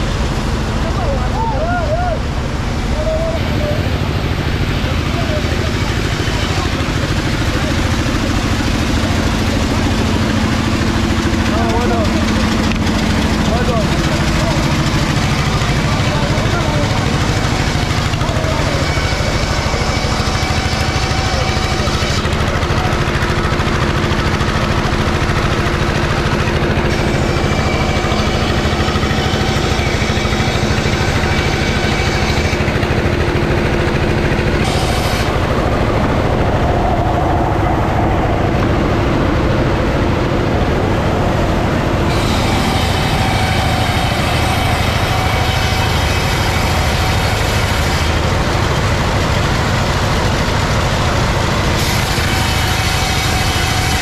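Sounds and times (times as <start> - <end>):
circular saw cutting planks: 0.0 - 54.0.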